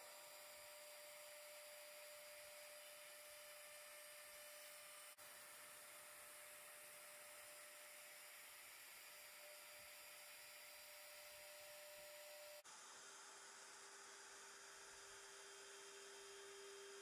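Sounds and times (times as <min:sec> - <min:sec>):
thin electrical hum: 0:00.0 - 0:17.0.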